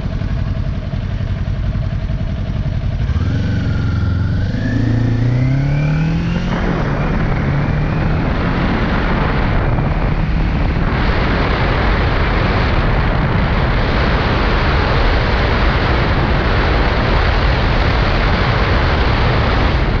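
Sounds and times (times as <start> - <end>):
motorcycle engine accelerating: 0.0 - 20.0
wind rushing on microphone: 0.0 - 20.0.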